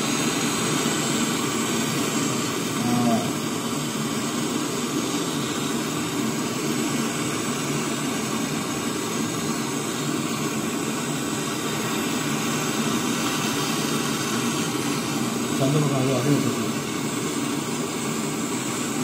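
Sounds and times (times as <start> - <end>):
torch flame hissing: 0.0 - 19.0.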